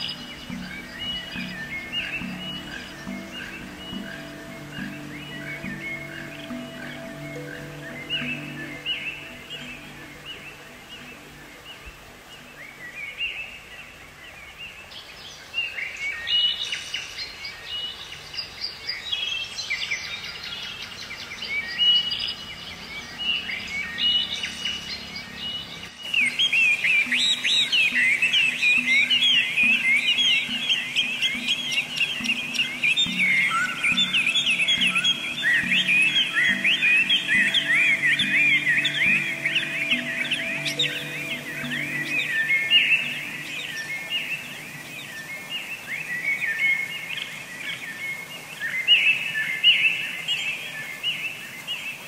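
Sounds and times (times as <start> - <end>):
songbirds chirping and twittering: 0.0 - 52.0.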